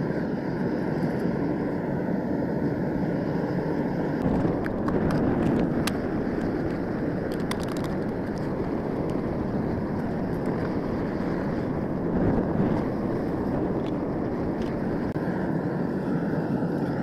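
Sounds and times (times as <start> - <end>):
furnace burner rushing: 0.0 - 17.0.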